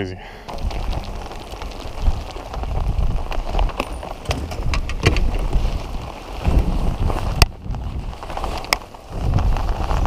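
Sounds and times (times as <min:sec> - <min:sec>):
heavy rain on water and boat: 0:00.4 - 0:10.0.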